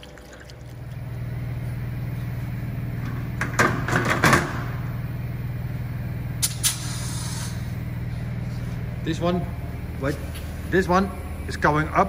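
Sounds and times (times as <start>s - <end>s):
air motor humming: 0.0s - 12.0s.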